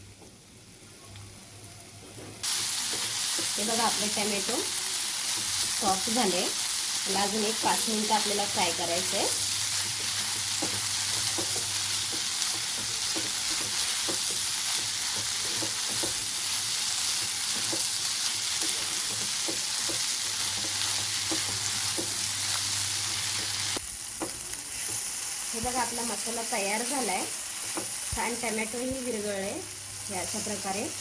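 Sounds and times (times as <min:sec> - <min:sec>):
vegetables sizzling in a pan: 0:00.2 - 0:31.0.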